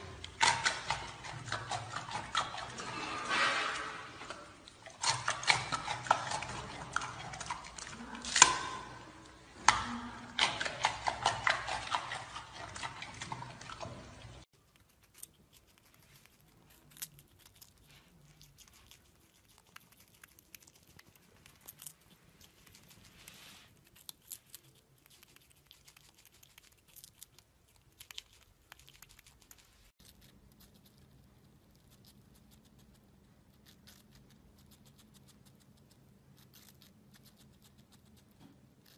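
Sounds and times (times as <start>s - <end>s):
animal crunching food: 0.0s - 38.9s.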